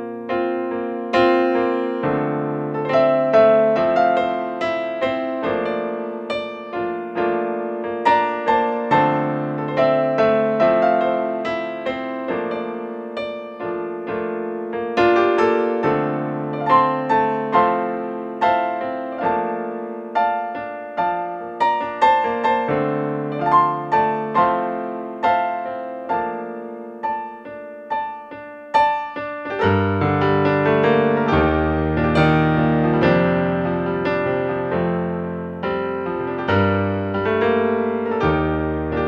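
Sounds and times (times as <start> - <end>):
digital piano melody: 0.0 - 39.0.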